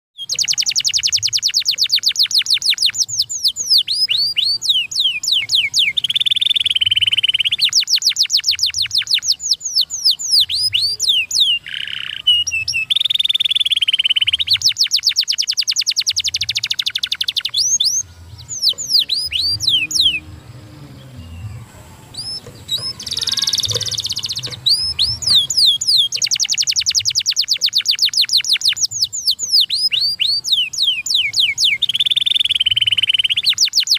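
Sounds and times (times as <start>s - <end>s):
canary singing trills: 0.2s - 33.9s.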